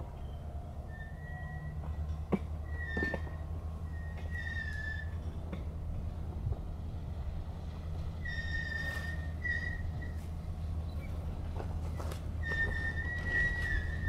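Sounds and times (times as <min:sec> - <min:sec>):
wheel flanges squealing on rail: 0:00.0 - 0:06.0, 0:07.9 - 0:14.0
freight cars rumbling past: 0:00.0 - 0:14.0.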